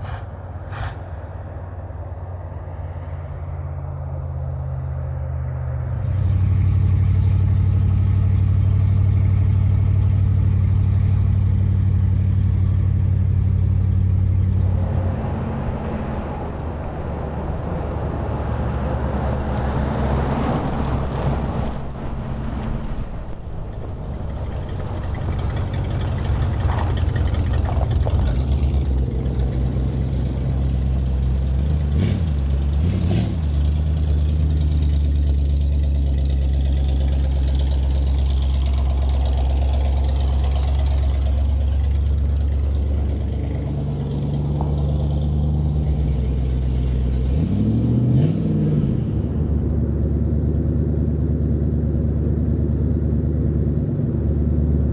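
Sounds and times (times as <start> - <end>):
car engine drone: 0.0 - 54.9.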